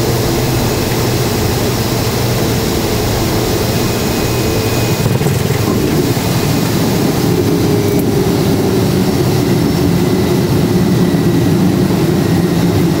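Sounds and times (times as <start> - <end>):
turboprop engine and propeller: 0.0 - 13.0.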